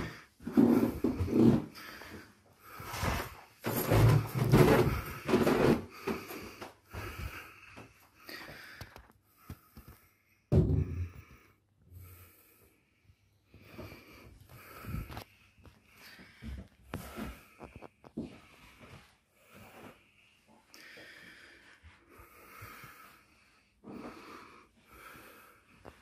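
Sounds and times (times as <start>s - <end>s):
footsteps on stairs and floors: 0.0s - 11.3s, 13.6s - 23.2s.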